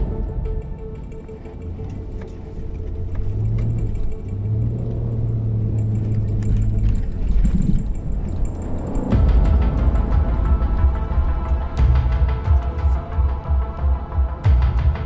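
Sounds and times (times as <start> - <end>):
background music: 0.0 - 15.0
suv engine rumbling: 0.0 - 15.0.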